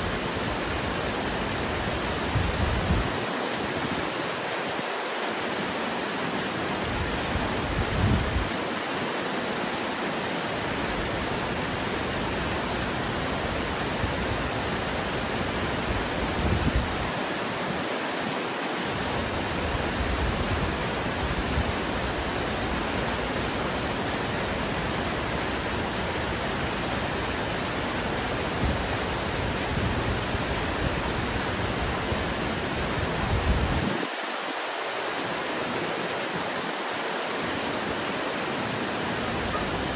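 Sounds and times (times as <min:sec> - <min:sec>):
rushing water hiss: 0:00.0 - 0:39.9.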